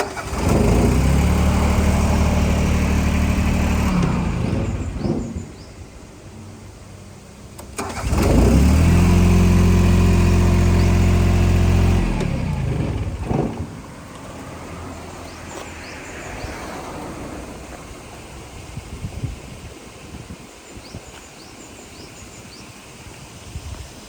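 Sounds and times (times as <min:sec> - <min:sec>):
diesel engine starting and running: 0:00.0 - 0:20.0.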